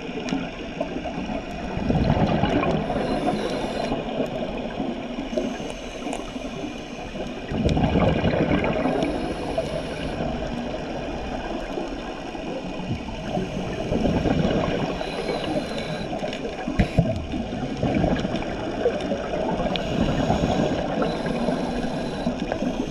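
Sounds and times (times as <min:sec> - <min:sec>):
gurgling underwater bubbles: 0:00.0 - 0:22.9
low underwater wash: 0:00.0 - 0:22.9.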